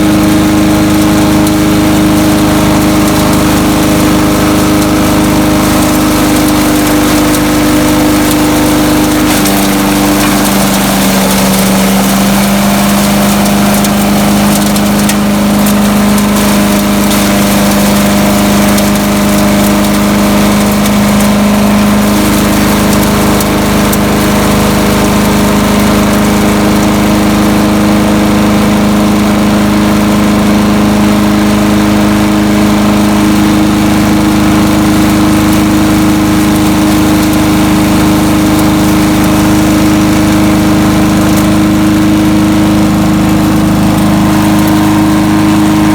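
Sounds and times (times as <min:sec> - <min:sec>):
chipper shredder engine running: 0:00.0 - 0:45.9.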